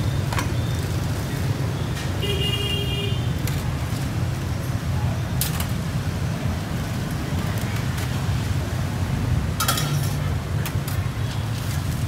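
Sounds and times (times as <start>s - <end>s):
traffic and crowd rumble: 0.0s - 12.0s.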